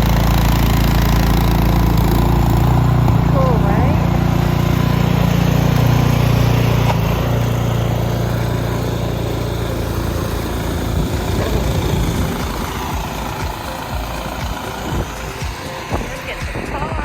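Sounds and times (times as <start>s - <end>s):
motor rumbling: 0.0s - 17.0s
rough uneven noise: 0.0s - 17.0s.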